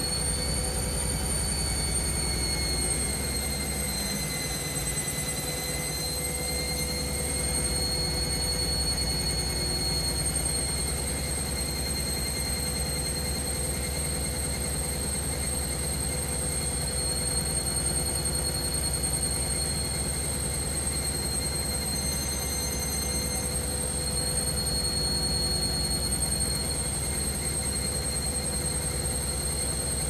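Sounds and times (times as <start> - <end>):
high-pitched motor whine: 0.0 - 30.0
washing machine pulsing rumble: 0.0 - 30.0.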